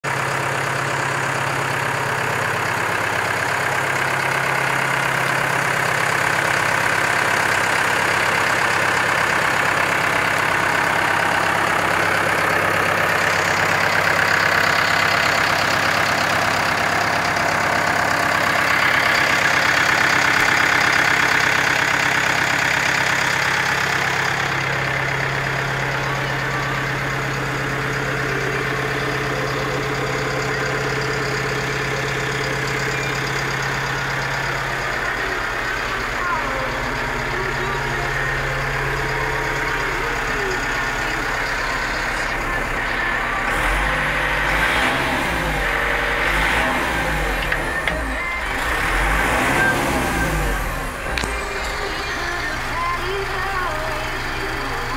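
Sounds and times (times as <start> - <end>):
tractor diesel engine idling: 0.0 - 54.9.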